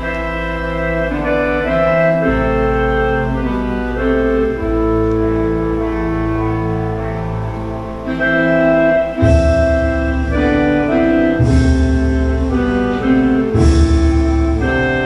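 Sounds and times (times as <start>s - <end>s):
slow solemn organ chords: 0.0s - 15.0s.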